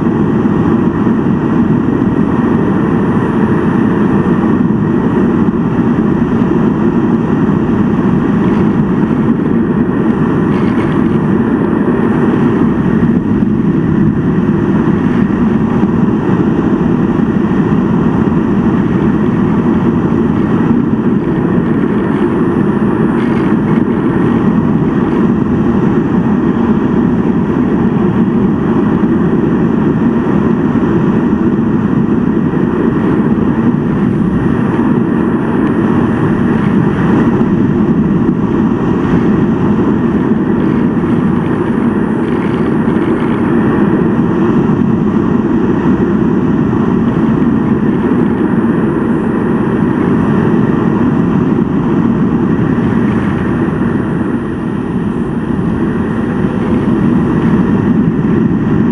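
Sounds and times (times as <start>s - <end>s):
model glider airflow rushing: 0.0s - 58.9s.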